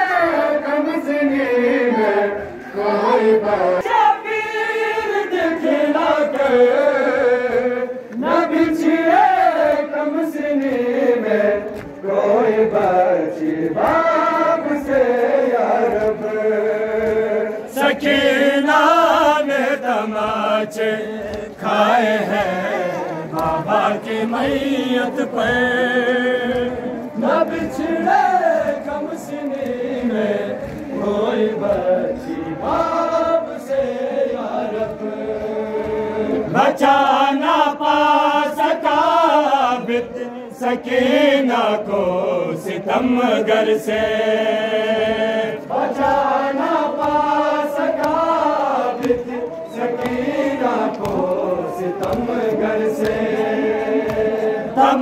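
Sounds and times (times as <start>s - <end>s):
men chanting a lament: 0.0s - 55.0s.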